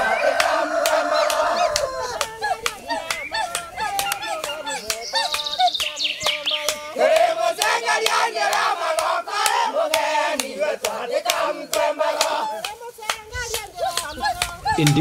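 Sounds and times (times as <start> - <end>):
group chanting: 0.0 - 15.0
sharp hand claps: 0.0 - 15.0.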